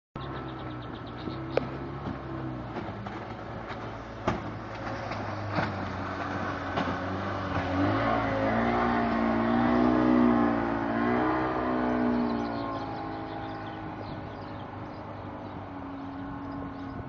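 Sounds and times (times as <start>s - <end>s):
speedboat engine passing: 0.2s - 17.0s.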